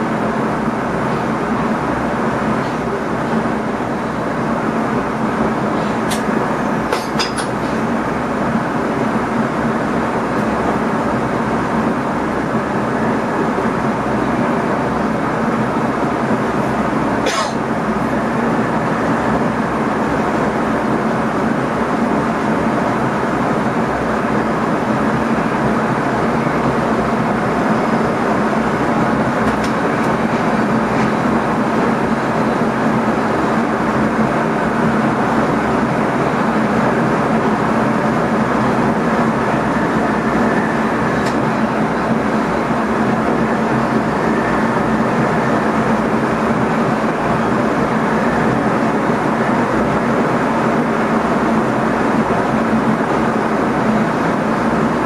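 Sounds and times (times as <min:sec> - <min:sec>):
train cab running noise: 0:00.0 - 0:55.0.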